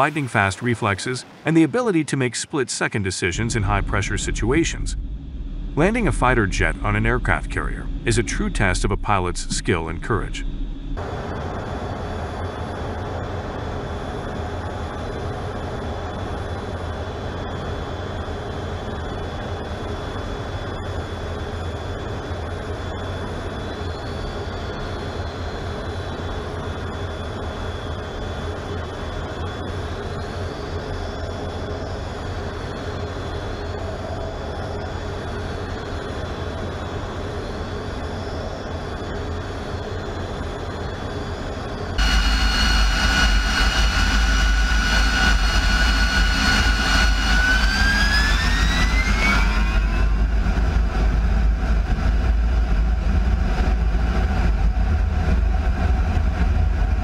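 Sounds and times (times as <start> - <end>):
high wavering whine: 0.0 - 57.0
jet engine rumble: 0.0 - 57.0.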